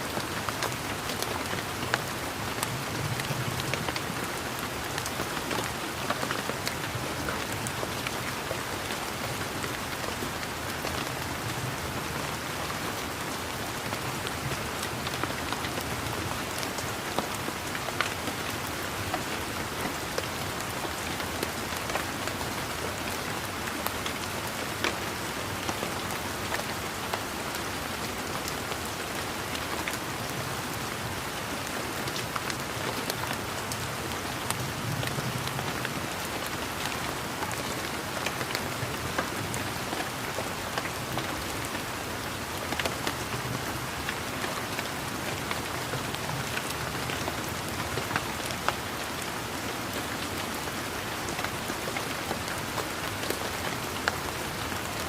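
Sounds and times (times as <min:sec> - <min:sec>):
steady rain falling: 0:00.0 - 0:55.0
raindrops tapping surfaces: 0:00.1 - 0:55.0.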